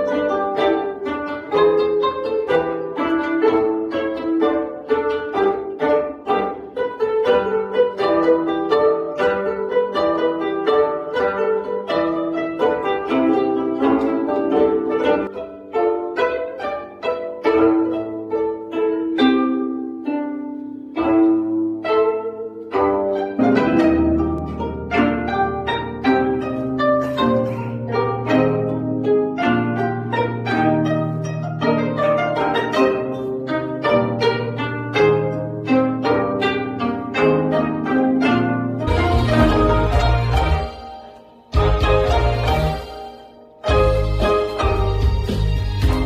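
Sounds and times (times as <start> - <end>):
plucked zither ensemble: 0.0 - 46.0.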